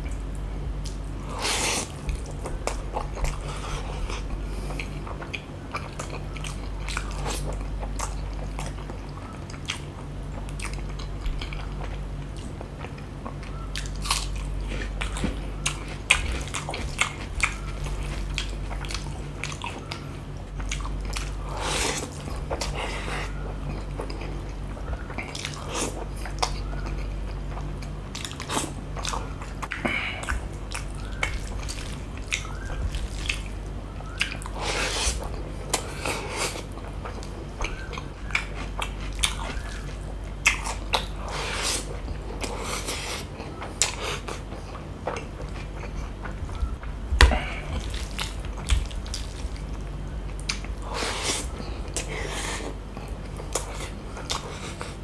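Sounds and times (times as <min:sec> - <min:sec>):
low steady hum: 0:00.0 - 0:55.0
man chewing with wet mouth sounds: 0:00.0 - 0:55.0.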